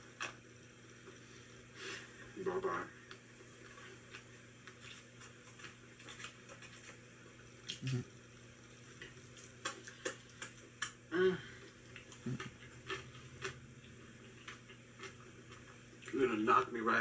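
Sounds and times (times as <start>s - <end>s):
man chewing food: 0.0s - 2.3s, 3.0s - 16.2s.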